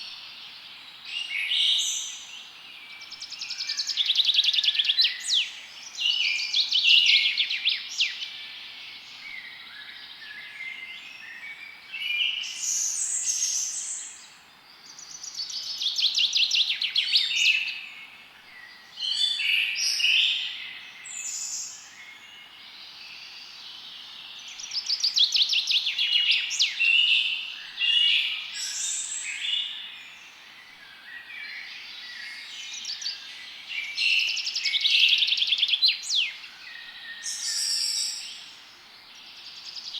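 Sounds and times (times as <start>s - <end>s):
faint steady hiss: 0.0s - 39.9s
songbirds trilling and chirping: 0.0s - 39.9s.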